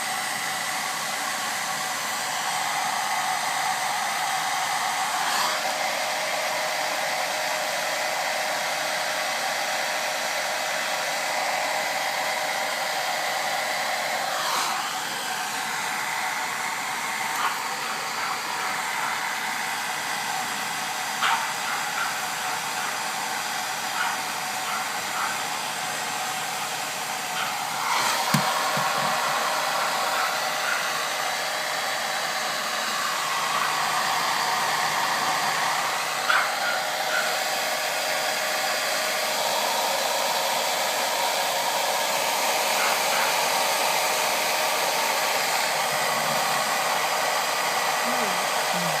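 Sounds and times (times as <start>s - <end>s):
hair dryer running: 0.0s - 49.0s.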